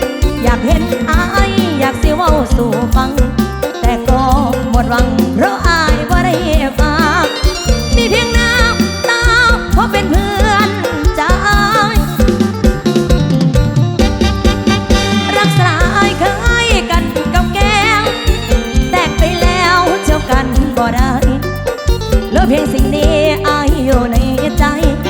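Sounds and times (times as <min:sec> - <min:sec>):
band music through loudspeakers: 0:00.0 - 0:25.0.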